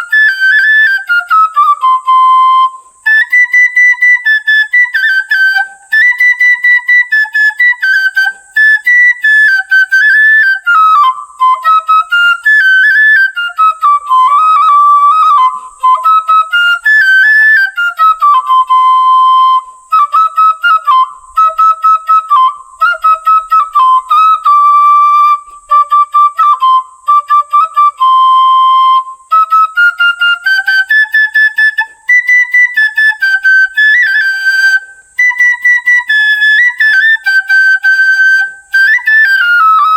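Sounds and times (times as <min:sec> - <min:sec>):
bamboo flute melody: 0:00.0 - 0:39.9.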